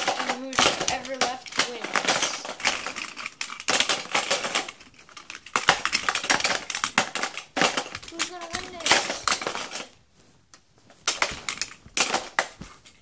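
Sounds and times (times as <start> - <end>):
plastic dispensers clicking and clattering: 0.0 - 9.9, 11.0 - 13.0.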